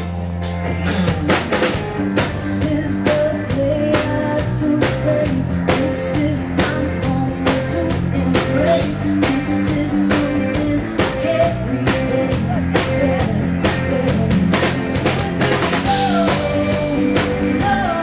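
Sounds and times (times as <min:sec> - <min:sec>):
drum kit beat: 0:00.0 - 0:18.0
live rock band playing: 0:00.0 - 0:18.0.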